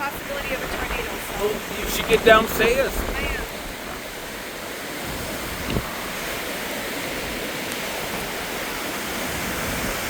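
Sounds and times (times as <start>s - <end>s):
wind blowing across microphone: 0.0s - 10.0s.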